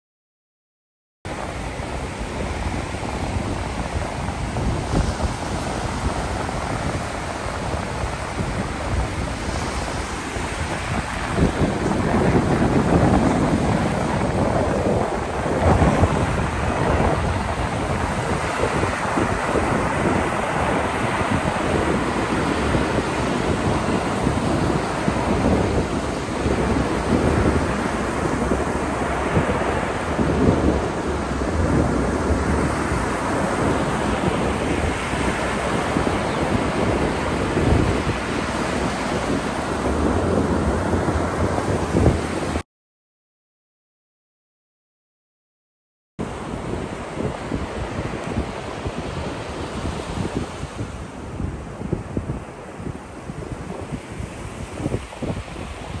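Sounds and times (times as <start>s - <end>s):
ocean surf breaking: 1.3s - 42.6s, 46.2s - 56.0s
wind on microphone: 1.3s - 42.6s, 46.2s - 56.0s.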